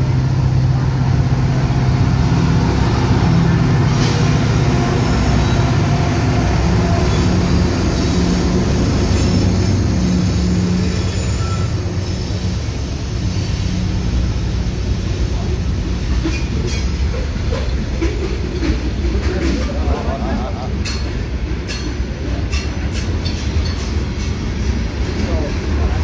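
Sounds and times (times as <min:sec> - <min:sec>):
diesel locomotive engine drone: 0:00.0 - 0:26.0
freight cars rolling on rails: 0:00.0 - 0:26.0.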